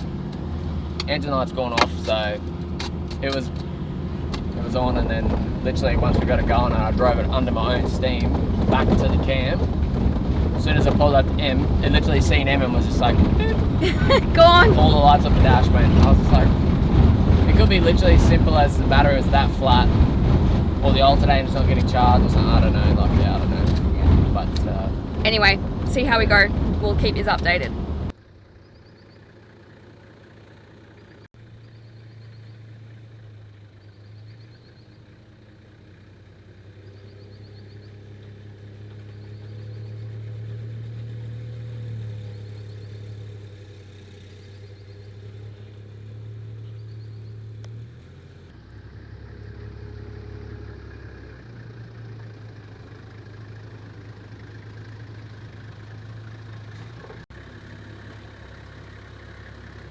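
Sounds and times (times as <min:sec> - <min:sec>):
vehicle engine droning while driving: 0:00.0 - 0:59.9.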